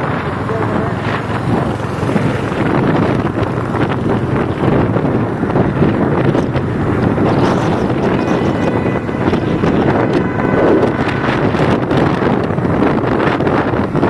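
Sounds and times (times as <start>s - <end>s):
motorcycle running: 0.0s - 14.0s
road noise: 0.0s - 14.0s
wind buffeting microphone: 0.0s - 14.0s.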